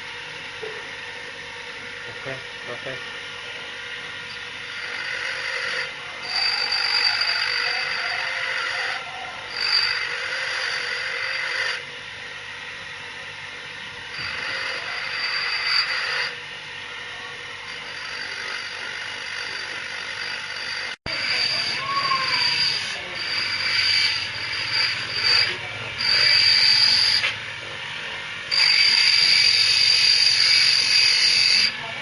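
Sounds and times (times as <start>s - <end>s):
grinding machine whine: 0.0s - 32.0s
stone grinding on wheel: 1.8s - 11.9s, 13.9s - 16.5s, 17.4s - 32.0s.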